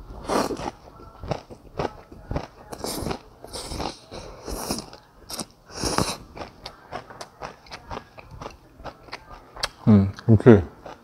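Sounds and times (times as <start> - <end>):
chewing: 0.2 - 11.0.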